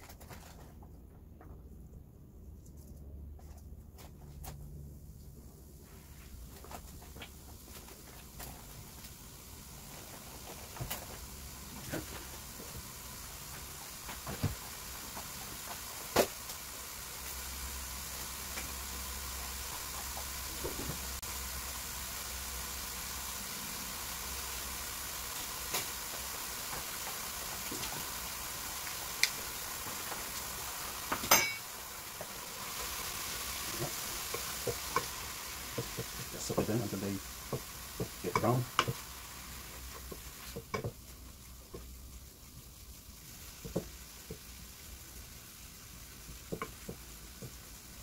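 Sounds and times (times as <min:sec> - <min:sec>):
meat sizzling in a frying pan: 0:05.8 - 0:48.0.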